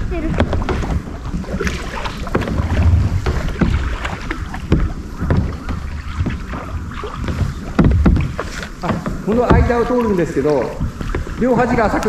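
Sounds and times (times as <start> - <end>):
paddle splashing in water: 0.0 - 12.0
water dripping: 0.0 - 12.0.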